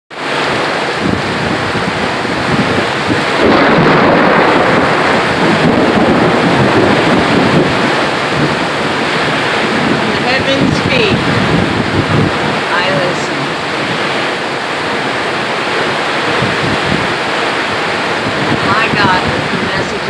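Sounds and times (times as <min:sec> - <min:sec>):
gusting wind: 0:00.1 - 0:20.0
heavy rain: 0:00.1 - 0:20.0.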